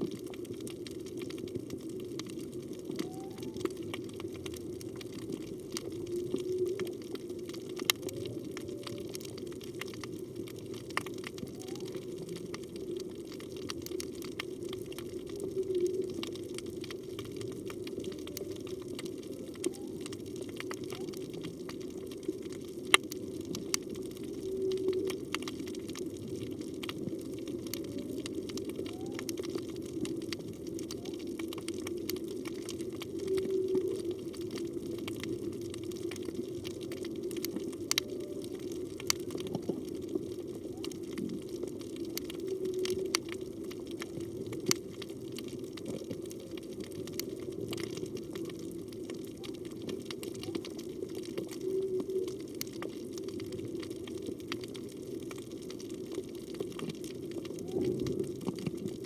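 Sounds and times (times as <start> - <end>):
steady low underwater hum: 0.0 - 59.0
whale song moans and calls: 2.2 - 22.6, 23.4 - 45.0, 45.7 - 54.0, 57.2 - 58.9.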